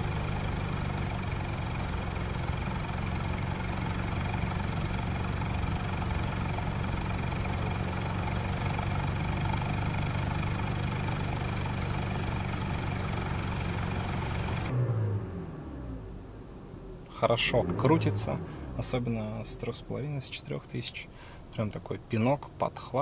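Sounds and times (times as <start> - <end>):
car engine running steadily: 0.0 - 23.0.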